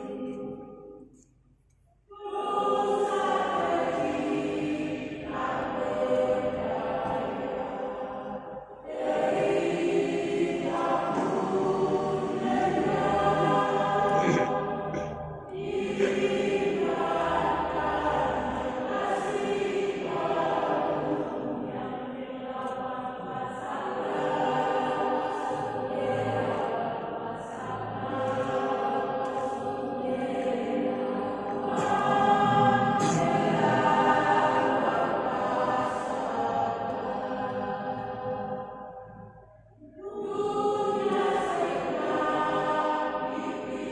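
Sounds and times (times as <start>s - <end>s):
choir singing held chords: 0.0s - 1.3s, 2.0s - 43.9s.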